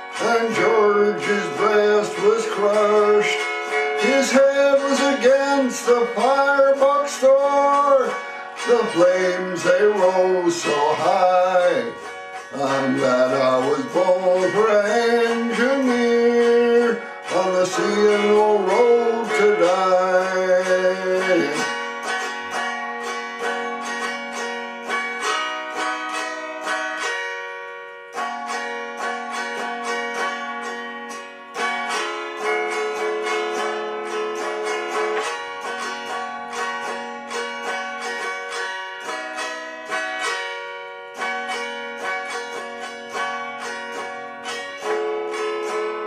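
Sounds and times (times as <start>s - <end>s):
plucked string instrument melody: 0.0s - 46.0s.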